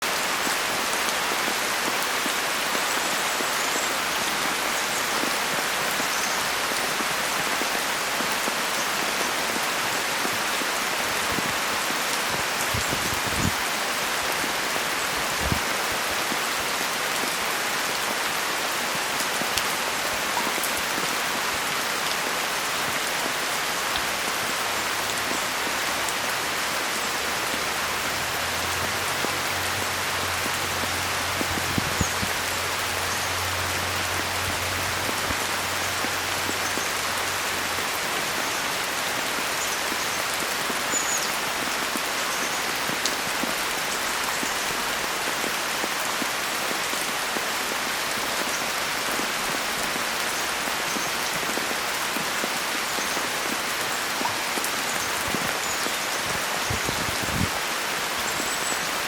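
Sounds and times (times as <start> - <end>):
rain falling on pond: 0.0 - 59.0.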